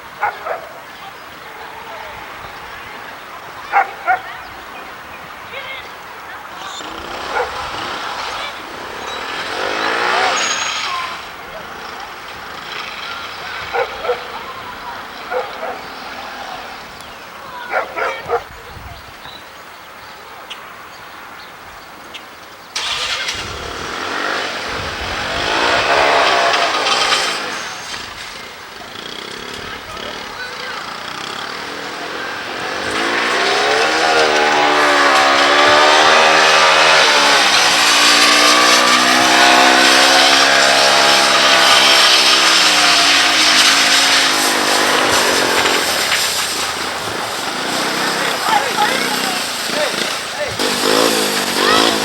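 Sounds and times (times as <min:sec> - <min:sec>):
atv engine revving: 0:00.0 - 0:18.5, 0:22.8 - 0:52.0.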